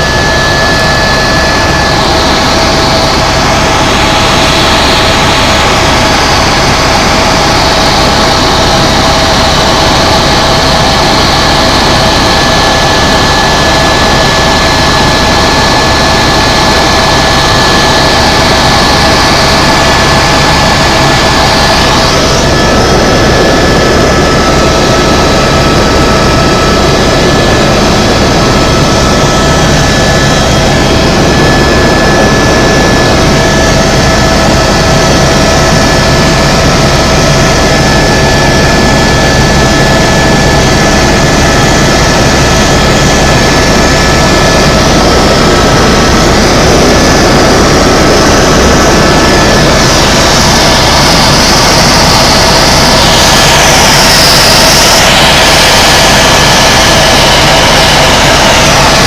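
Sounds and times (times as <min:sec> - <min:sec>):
helicopter engine and rotor drone: 0:00.0 - 0:59.0
high whine: 0:00.0 - 0:59.0.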